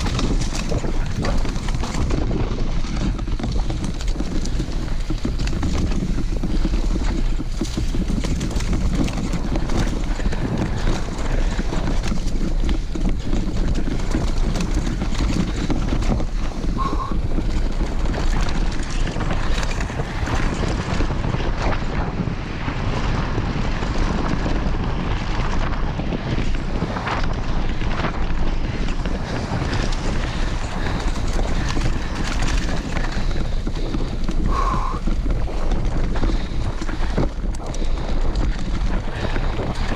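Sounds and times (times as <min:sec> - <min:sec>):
bike rattling on trail: 0:00.0 - 0:39.9
wind rushing over microphone: 0:00.0 - 0:39.9.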